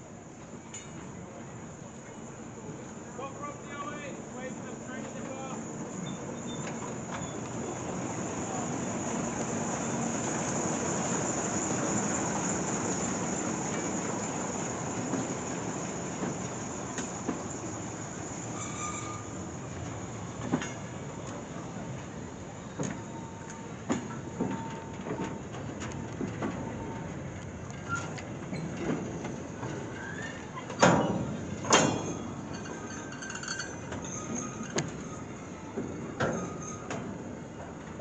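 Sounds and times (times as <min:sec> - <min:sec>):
rumble of wagon wheels on rails: 0:00.0 - 0:38.0.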